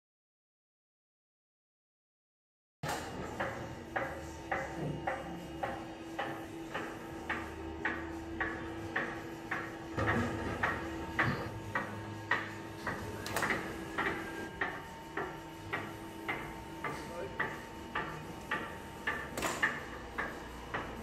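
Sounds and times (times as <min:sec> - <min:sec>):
motor hum: 0:02.8 - 0:21.0.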